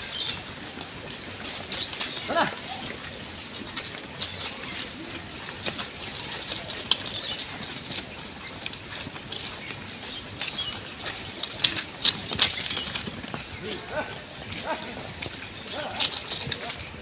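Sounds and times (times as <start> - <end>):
hooves pattering on ground: 0.0 - 17.0.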